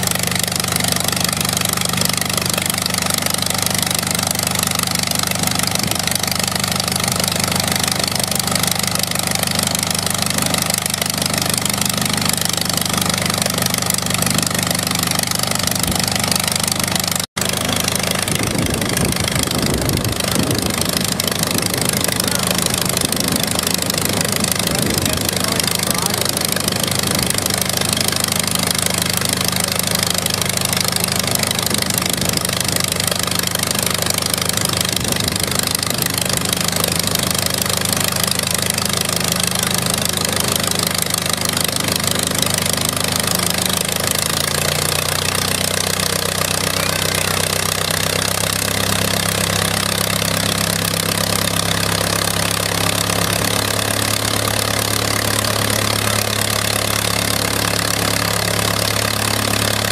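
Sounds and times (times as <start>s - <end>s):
piston aircraft engine running: 0.0s - 59.9s.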